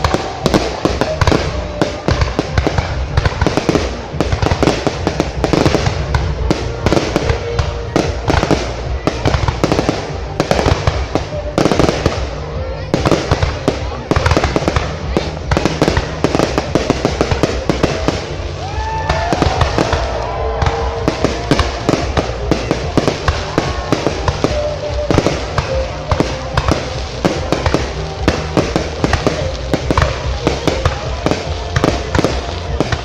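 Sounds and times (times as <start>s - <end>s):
fireworks cracking and popping: 0.0s - 33.0s.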